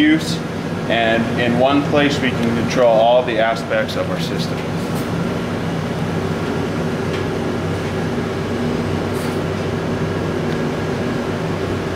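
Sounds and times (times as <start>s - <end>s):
low mechanical hum: 0.0s - 11.9s.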